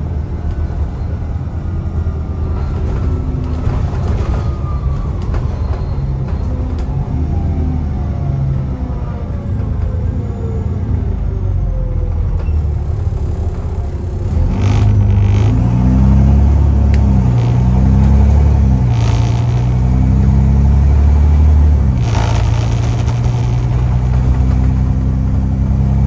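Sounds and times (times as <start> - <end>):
bus diesel engine pulling: 0.0 - 26.0.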